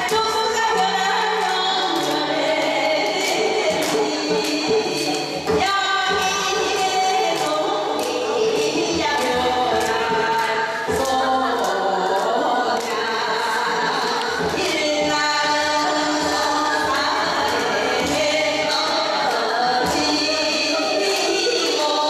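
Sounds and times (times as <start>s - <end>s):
instrumental accompaniment: 0.0s - 22.0s
percussion strikes: 0.0s - 22.0s
voices singing folk song: 0.0s - 22.0s.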